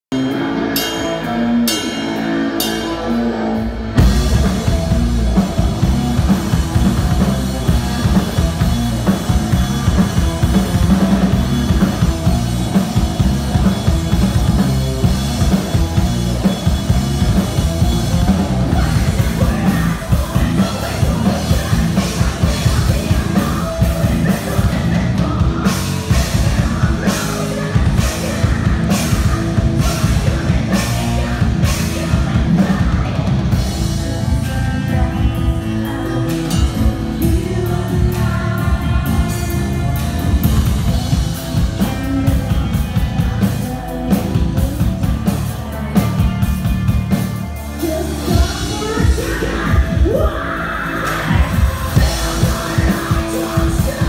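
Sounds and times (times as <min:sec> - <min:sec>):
heavy metal band playing live: 0:00.0 - 0:54.0.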